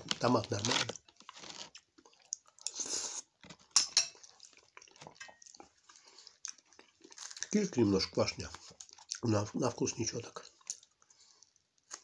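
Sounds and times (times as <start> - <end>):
person chewing: 0.0 - 9.2, 10.4 - 12.0.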